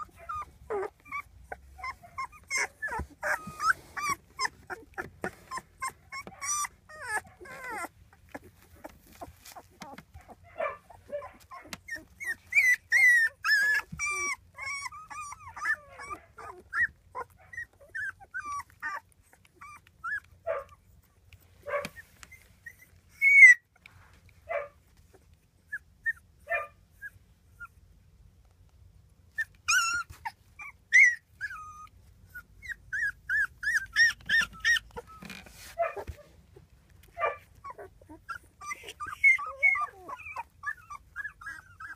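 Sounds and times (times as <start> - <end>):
puppies squeaking: 0.0 - 23.9, 24.6 - 27.8, 29.3 - 41.9.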